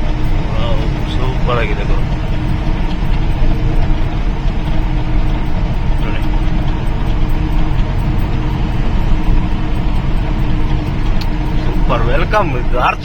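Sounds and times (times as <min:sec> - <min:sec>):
truck engine drone in cab: 0:00.0 - 0:13.0.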